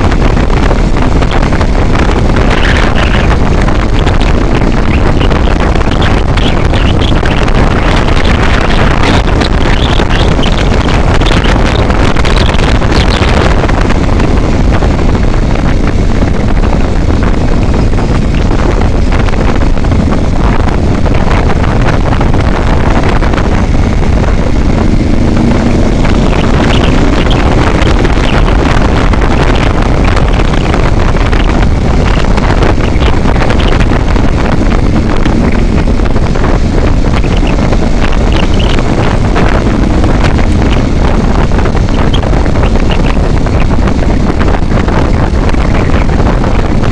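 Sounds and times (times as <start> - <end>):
vehicle driving on highway: 0.0 - 46.9
wind buffeting microphone: 0.0 - 46.9.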